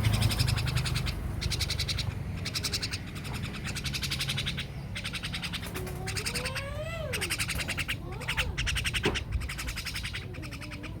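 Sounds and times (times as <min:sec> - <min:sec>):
gliding low animal calls: 0:00.0 - 0:11.0
rapid high animal chatter: 0:00.0 - 0:11.0.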